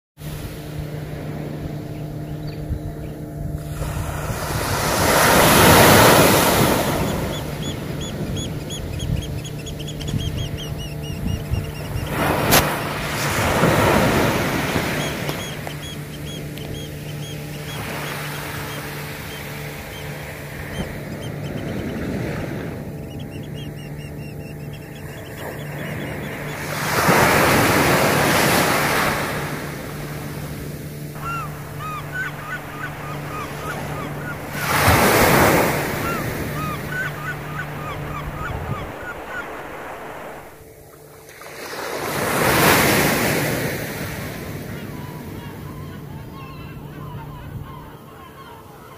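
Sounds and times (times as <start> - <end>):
sea waves breaking on a beach: 0.2 - 48.9.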